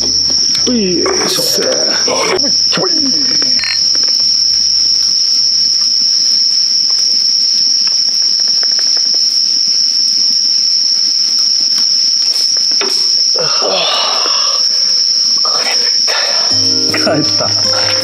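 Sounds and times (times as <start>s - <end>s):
campfire crackling: 0.0s - 13.4s, 14.2s - 18.0s
crickets chirping: 0.0s - 18.0s.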